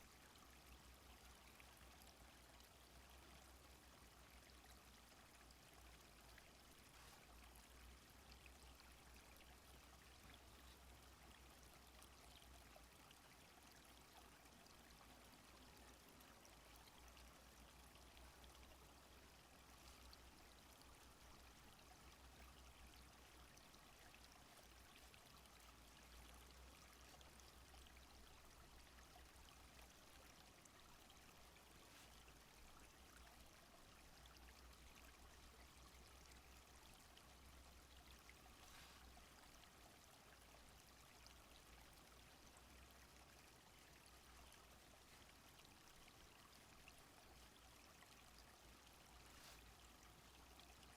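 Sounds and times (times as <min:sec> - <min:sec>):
small stream flowing: 0:00.0 - 0:50.9.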